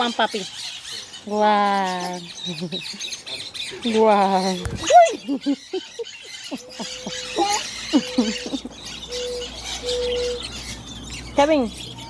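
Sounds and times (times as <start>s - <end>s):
parrots chattering and calling: 0.0s - 12.0s.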